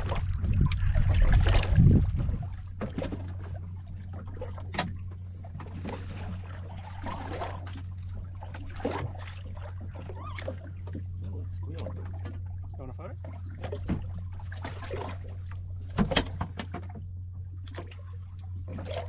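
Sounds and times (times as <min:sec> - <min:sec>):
steady low hum: 0:00.0 - 0:19.0
water lapping against boat hull: 0:00.0 - 0:19.0.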